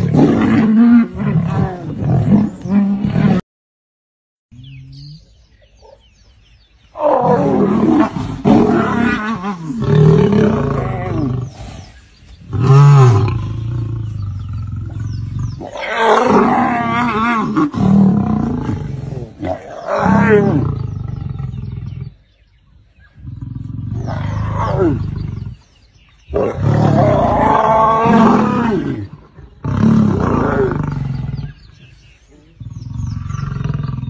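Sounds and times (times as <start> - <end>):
lion roaring and growling: 0.0 - 3.4, 7.0 - 22.2, 23.1 - 31.9.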